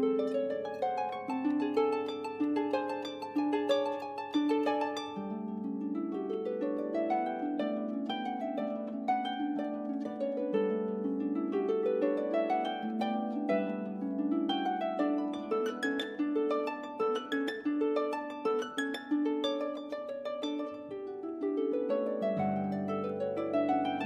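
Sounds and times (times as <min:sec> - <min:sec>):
harp playing arpeggios: 0:00.0 - 0:24.0.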